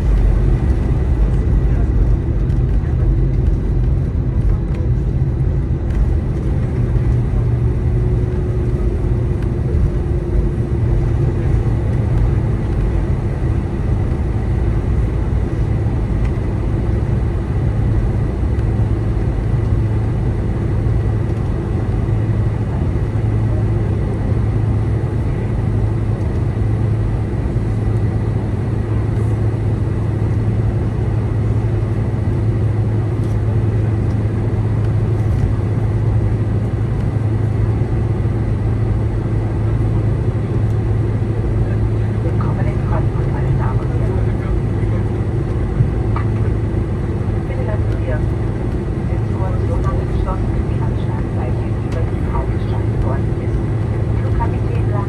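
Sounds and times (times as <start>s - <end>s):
jet engines rumbling: 0.0s - 55.0s
low hum: 0.0s - 55.0s.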